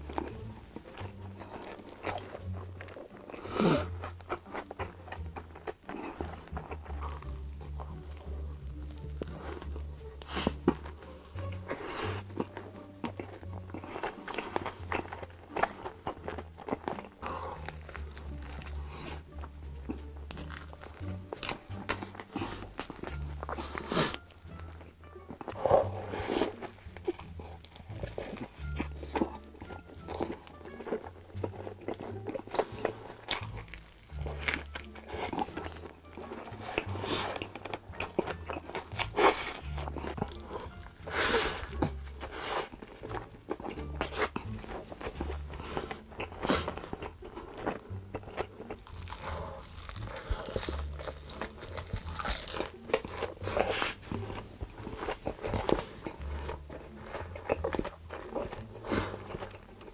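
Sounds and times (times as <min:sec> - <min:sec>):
background music with low bass: 0:00.0 - 0:59.9
crunching and chewing food: 0:00.0 - 0:59.9.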